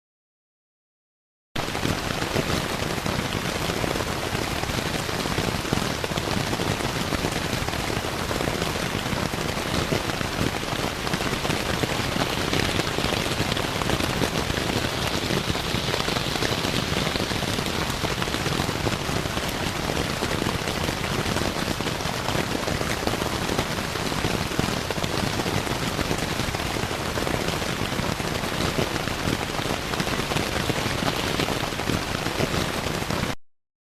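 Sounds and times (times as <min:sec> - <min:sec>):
rain pattering on tent fabric: 0:01.6 - 0:33.4.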